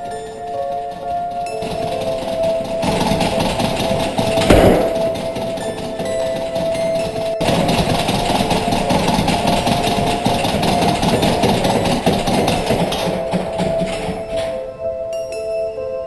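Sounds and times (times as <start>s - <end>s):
held note of background music: 0.0s - 16.0s.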